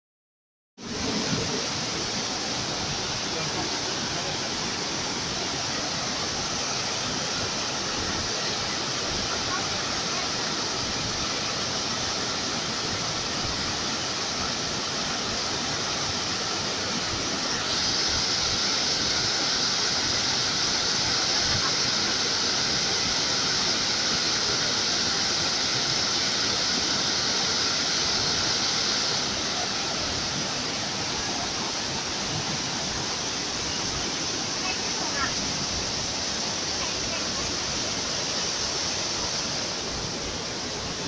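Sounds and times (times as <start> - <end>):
river rushing over rocks: 0.8 - 41.0.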